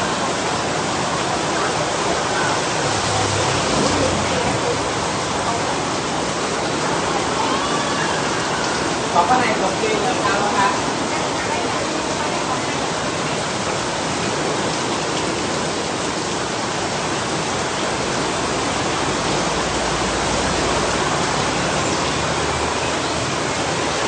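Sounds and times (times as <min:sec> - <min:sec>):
aquarium water rushing: 0:00.0 - 0:24.0.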